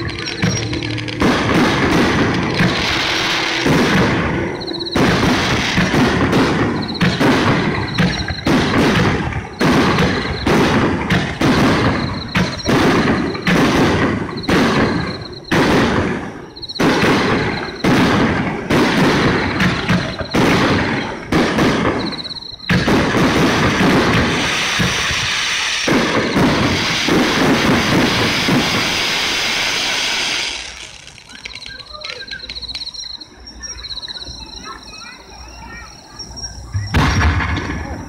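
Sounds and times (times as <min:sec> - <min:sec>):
fireworks booming: 0:00.0 - 0:35.0, 0:36.3 - 0:38.0.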